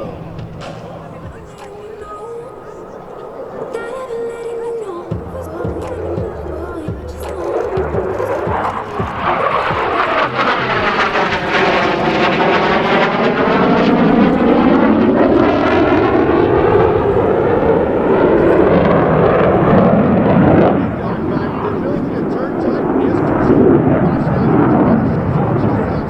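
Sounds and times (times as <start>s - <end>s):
jet flying past: 0.0s - 26.0s.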